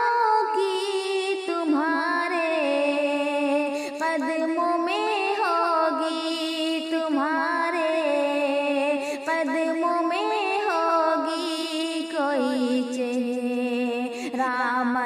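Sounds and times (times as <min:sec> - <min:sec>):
woman singing slowly: 0:00.0 - 0:15.0.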